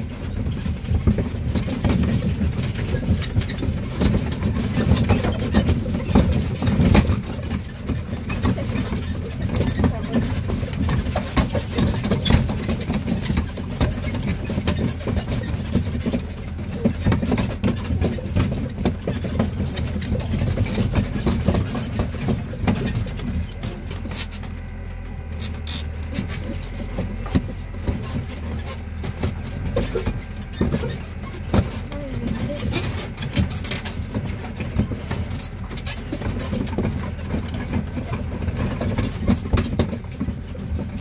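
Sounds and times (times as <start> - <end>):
carriages rattling and knocking: 0.0 - 41.0
road train engine running: 0.0 - 41.0.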